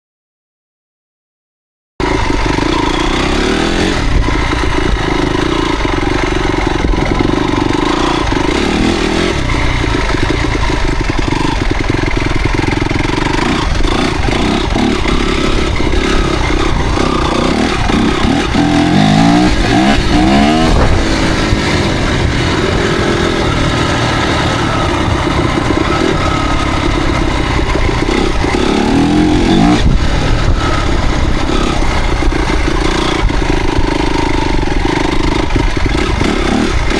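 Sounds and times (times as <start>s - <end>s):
dirt bike engine revving: 2.0s - 36.9s.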